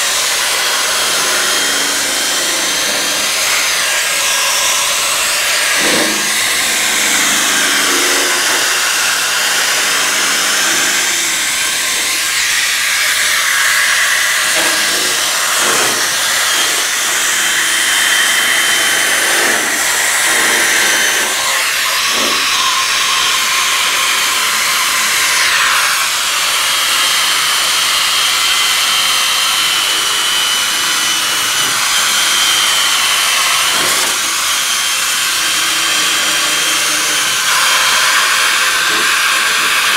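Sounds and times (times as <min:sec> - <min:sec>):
wire brush rotary tool whining: 0:00.0 - 0:39.9.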